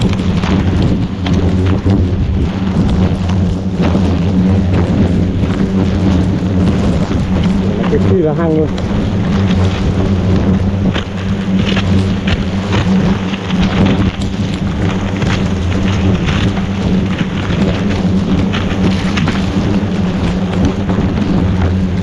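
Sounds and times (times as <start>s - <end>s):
crackling and rustling leaves: 0.0s - 22.0s
hornets buzzing: 0.0s - 22.0s.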